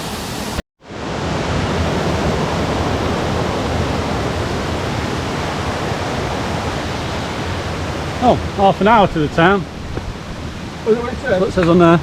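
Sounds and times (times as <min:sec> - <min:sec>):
rushing water: 0:00.8 - 0:12.0.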